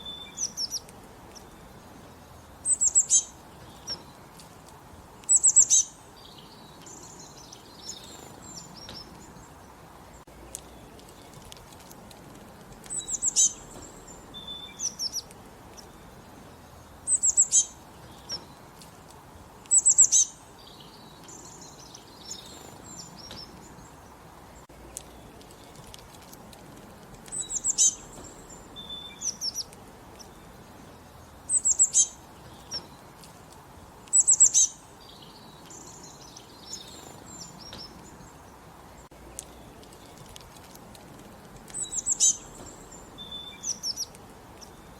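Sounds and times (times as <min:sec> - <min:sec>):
songbird singing high phrase: 0:00.0 - 0:04.3, 0:05.1 - 0:11.3, 0:12.9 - 0:18.7, 0:19.6 - 0:25.8, 0:27.3 - 0:33.1, 0:34.0 - 0:40.2, 0:41.7 - 0:44.9
soft bird chirps: 0:00.0 - 0:44.9.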